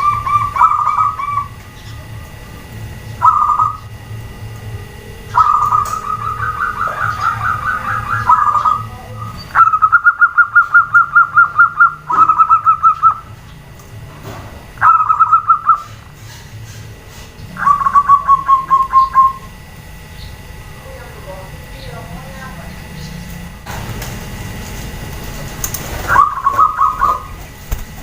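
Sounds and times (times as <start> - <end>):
dove cooing: 0.0 - 23.6, 25.4 - 28.0.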